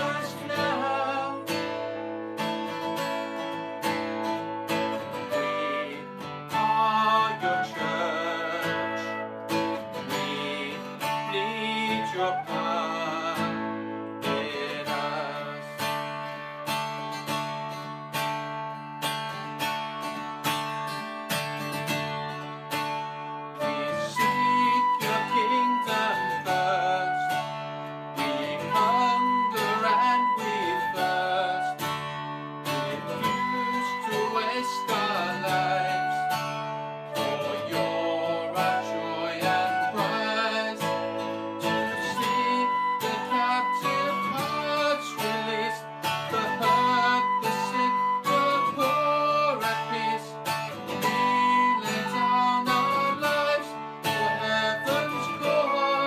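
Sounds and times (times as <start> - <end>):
acoustic guitar strumming: 0.0 - 56.0
flute melody: 0.0 - 56.0.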